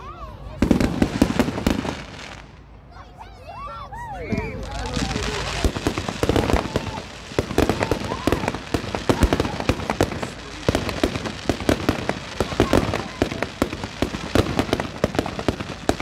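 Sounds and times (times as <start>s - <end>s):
fireworks bangs and crackles: 0.4s - 2.8s, 4.2s - 16.0s.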